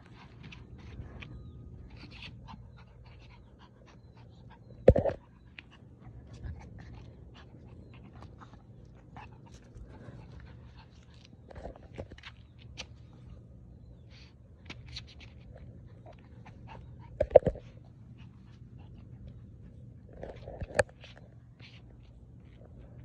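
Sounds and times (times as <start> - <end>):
dog panting: 0.0 - 23.0.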